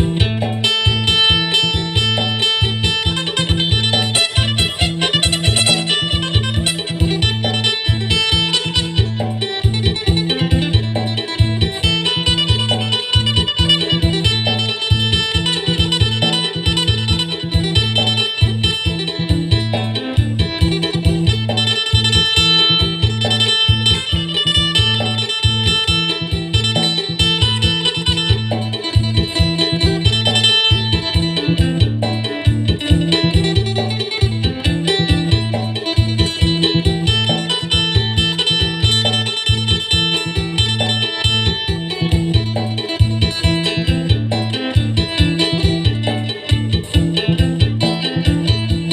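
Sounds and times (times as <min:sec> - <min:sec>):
plucked lute melody: 0:00.0 - 0:48.9
steady beat: 0:00.0 - 0:48.9.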